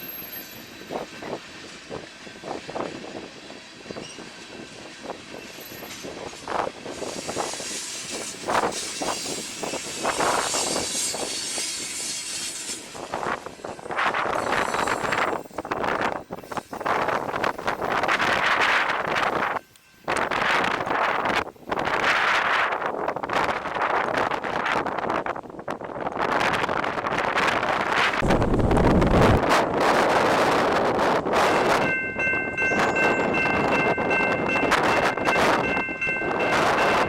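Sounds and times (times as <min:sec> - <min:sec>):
train rolling by slowly: 0:00.0 - 0:37.0
wind buffeting microphone: 0:00.7 - 0:37.0.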